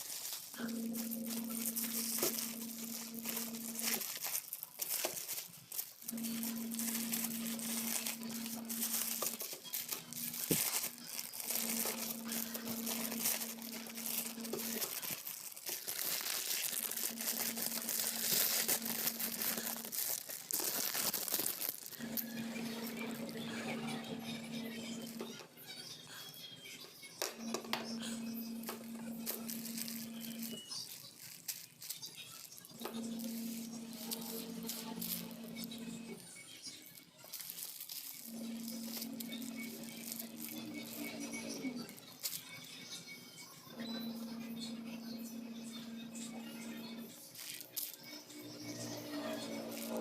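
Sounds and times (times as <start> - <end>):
plastic packaging crinkling: 0.0 - 26.2, 27.0 - 44.9, 46.6 - 50.0.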